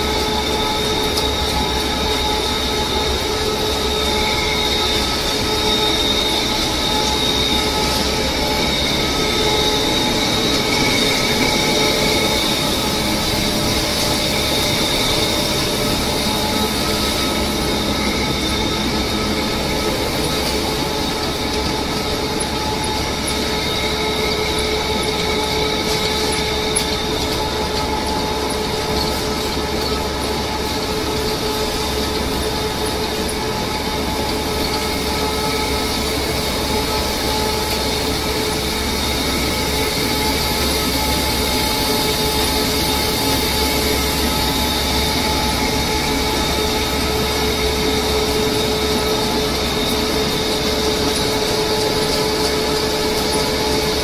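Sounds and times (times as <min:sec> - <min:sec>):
factory machinery din: 0:00.0 - 0:54.0
high machine whining tones: 0:00.0 - 0:54.0.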